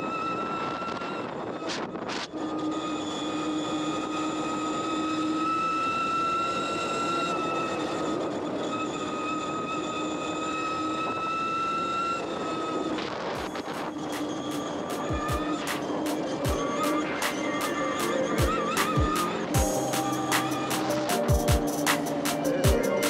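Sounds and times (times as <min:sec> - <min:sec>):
electric motor whining: 0:00.0 - 0:23.0
rushing noise: 0:00.0 - 0:23.0.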